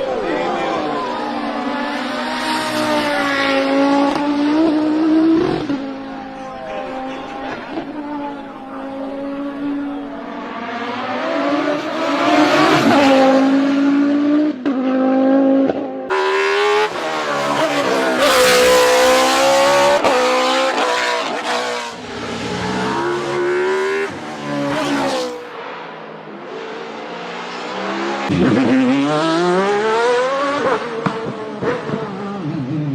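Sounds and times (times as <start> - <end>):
rally car engine at high revs: 0.0 - 32.9.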